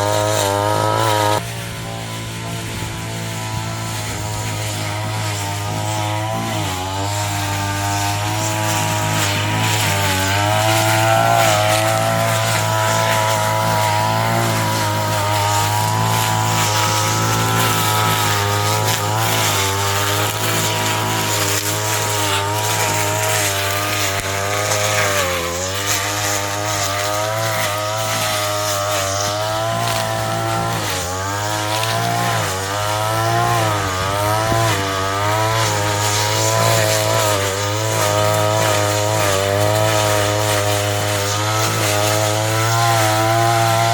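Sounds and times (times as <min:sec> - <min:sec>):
grass cutter engine running: 0:00.0 - 0:43.9.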